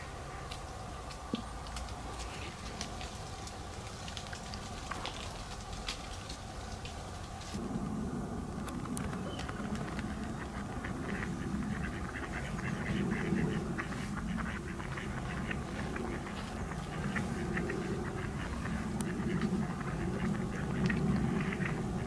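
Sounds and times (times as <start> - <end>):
rats rustling and nibbling: 0.4 - 7.6, 8.6 - 21.8.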